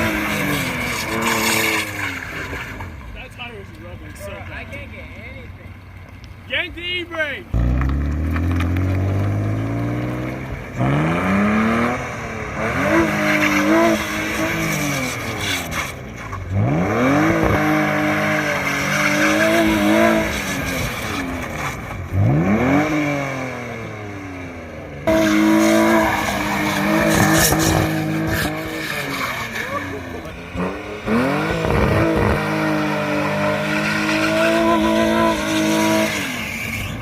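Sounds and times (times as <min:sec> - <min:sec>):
tires squealing: 0:00.0 - 0:05.9, 0:06.5 - 0:24.2, 0:25.0 - 0:37.0
car engine revving: 0:00.0 - 0:06.1, 0:07.4 - 0:37.0.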